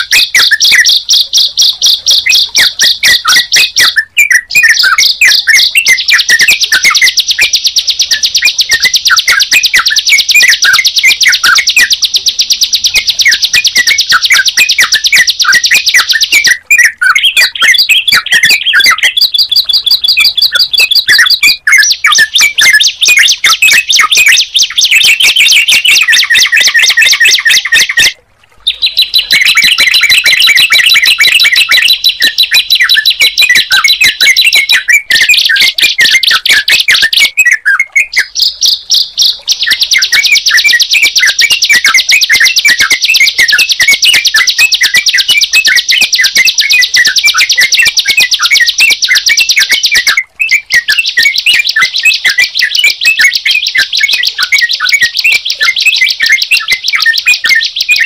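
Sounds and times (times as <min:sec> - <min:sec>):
bird bubbling notes: 0:00.0 - 0:58.0
bird high chirping notes: 0:00.0 - 0:58.0.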